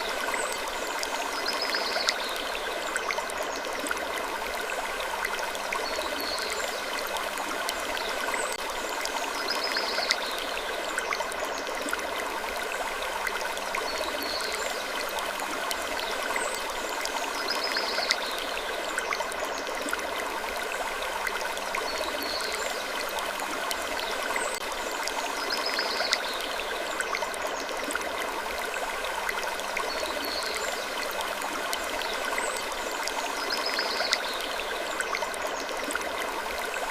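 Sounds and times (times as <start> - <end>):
flowing water rushing: 0.0 - 36.9.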